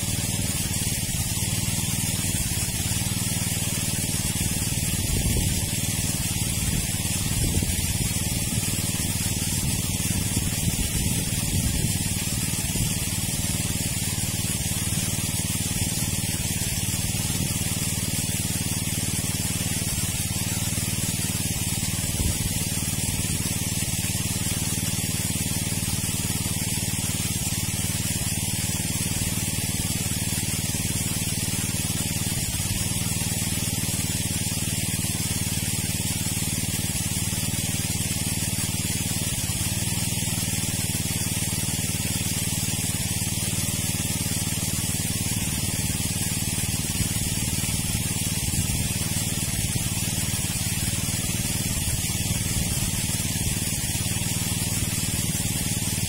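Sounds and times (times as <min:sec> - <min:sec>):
engine-driven water pump running: 0:00.0 - 0:56.0.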